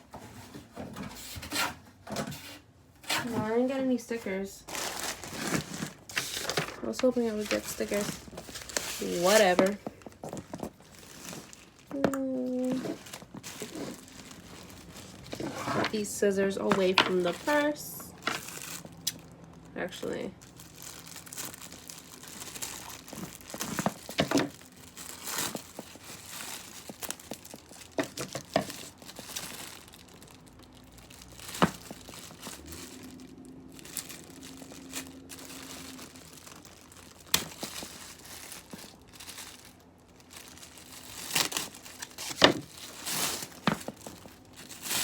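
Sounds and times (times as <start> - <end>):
packaging crinkling and rustling: 0.0 - 45.0.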